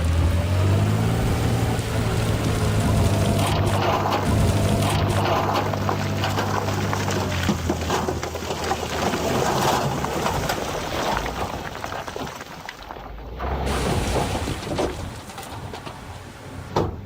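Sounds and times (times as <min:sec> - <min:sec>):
stones sliding and tumbling: 0:02.3 - 0:16.2.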